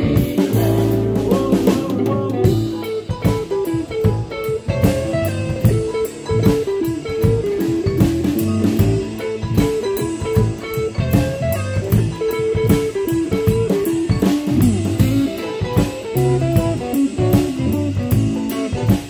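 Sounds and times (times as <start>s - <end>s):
guitars picking melody lines: 0.0s - 19.0s
steady drum beat: 0.0s - 19.0s.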